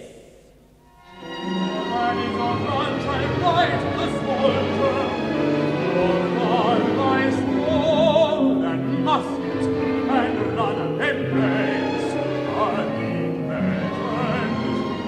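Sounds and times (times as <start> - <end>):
orchestral chords: 0.1 - 15.0
operatic voice singing: 1.6 - 15.0.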